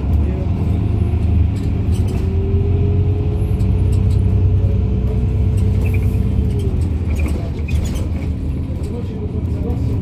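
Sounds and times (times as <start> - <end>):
bus drivetrain rumble: 0.0 - 10.0.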